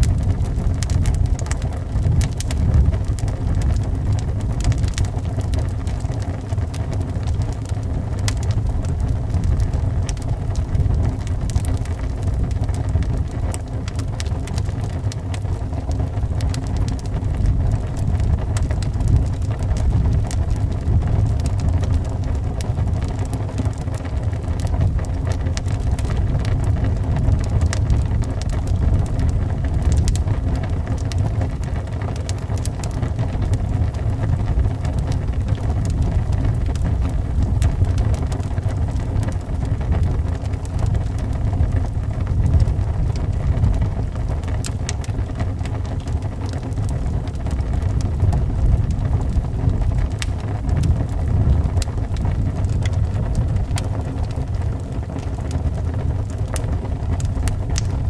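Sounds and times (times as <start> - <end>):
low rumble of wind: 0.0 - 58.0
wood fire crackling and popping: 0.0 - 58.0.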